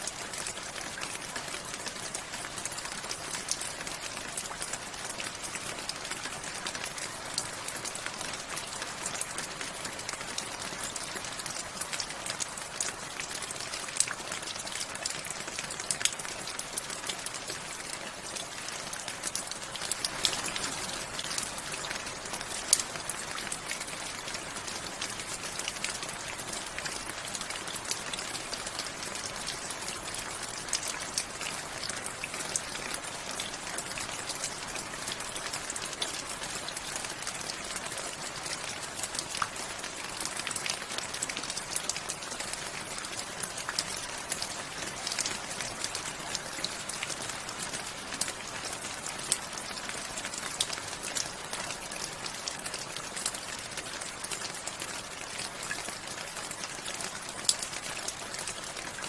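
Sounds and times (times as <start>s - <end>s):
rain drops on hard surface: 0.0s - 59.0s.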